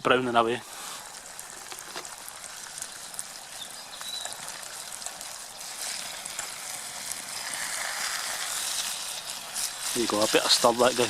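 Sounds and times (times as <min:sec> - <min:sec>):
meat sizzling in a pot: 0:00.1 - 0:11.0.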